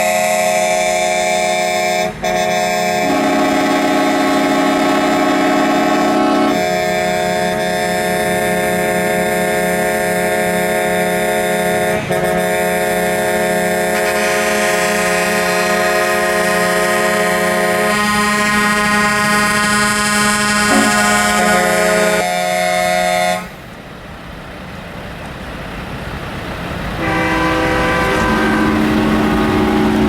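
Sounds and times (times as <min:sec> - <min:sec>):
truck air horns blowing: 0:00.0 - 0:23.6, 0:27.0 - 0:30.0.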